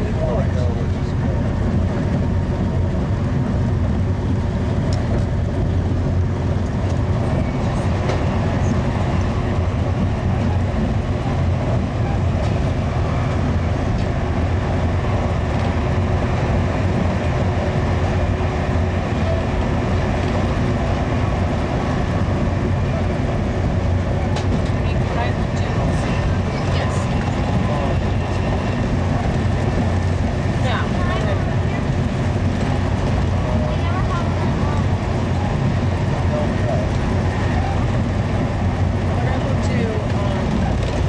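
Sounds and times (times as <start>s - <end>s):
train wheels on rail rumble: 0.0s - 41.0s.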